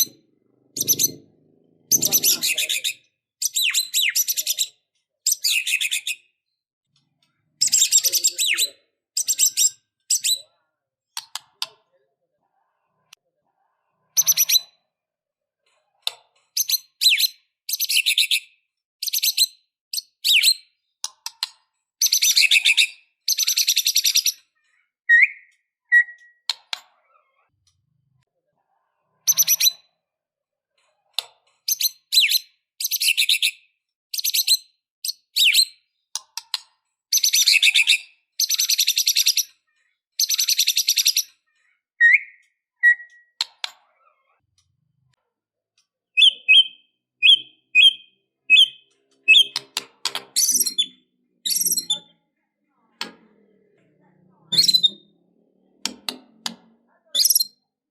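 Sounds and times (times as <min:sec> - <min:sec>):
bird singing rapid phrases: 0:00.0 - 0:11.9, 0:14.0 - 0:15.0, 0:16.0 - 0:27.5, 0:29.1 - 0:30.0, 0:31.2 - 0:44.5, 0:46.1 - 0:52.3, 0:54.5 - 0:55.2, 0:57.0 - 0:57.9.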